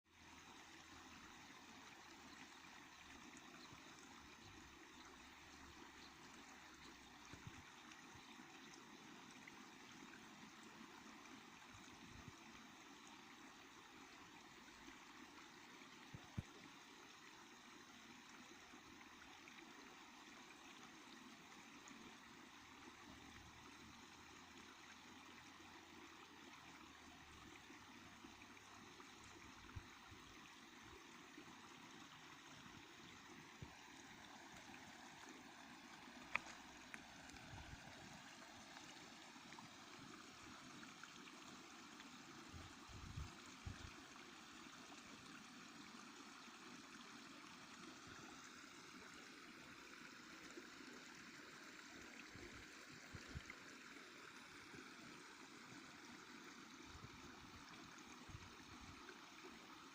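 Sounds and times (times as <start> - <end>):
stream babbling: 0.1 - 59.9.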